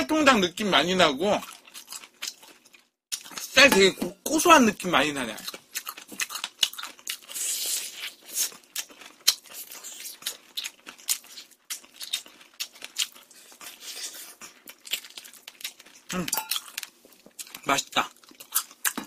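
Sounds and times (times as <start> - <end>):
crunching fried chicken: 1.2 - 3.9, 4.9 - 19.0.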